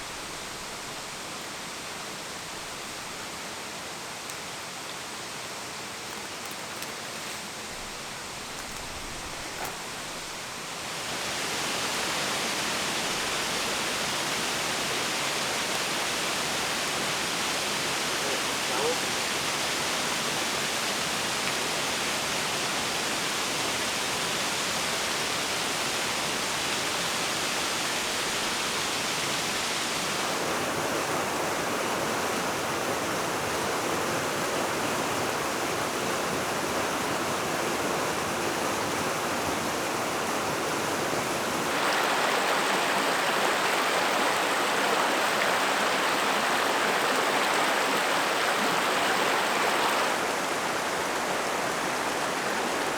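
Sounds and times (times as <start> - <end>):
stream water rushing: 0.0 - 52.9.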